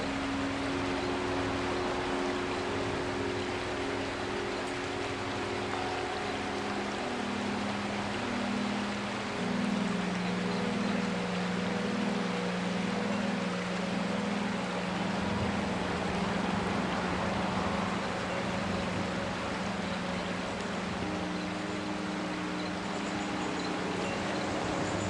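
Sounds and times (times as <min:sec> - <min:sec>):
higher hum: 0:00.0 - 0:25.0
river water rushing: 0:00.0 - 0:25.0.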